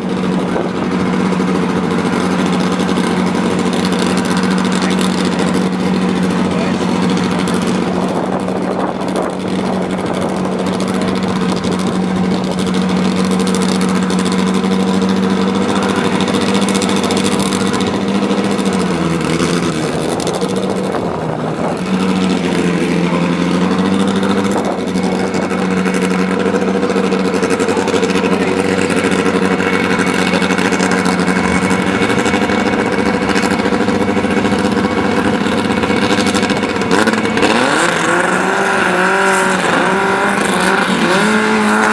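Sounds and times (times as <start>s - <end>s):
race car engine idling: 0.0s - 41.9s.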